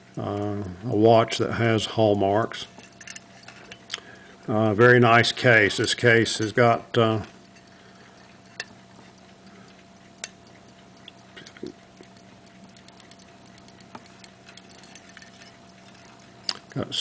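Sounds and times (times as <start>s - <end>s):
pocket watch ticks and clicks: 0.0s - 16.9s
faint low hum: 0.0s - 17.0s.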